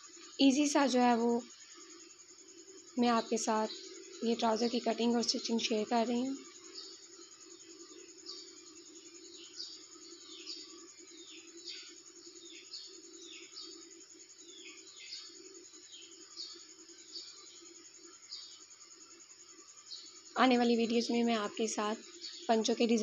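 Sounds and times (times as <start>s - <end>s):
birds chirping: 0.0s - 18.8s, 19.5s - 23.0s.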